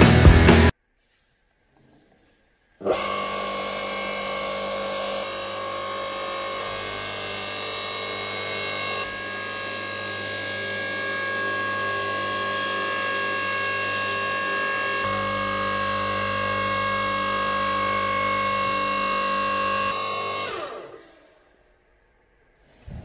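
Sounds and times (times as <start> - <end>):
log splitter motor humming: 2.8 - 21.3.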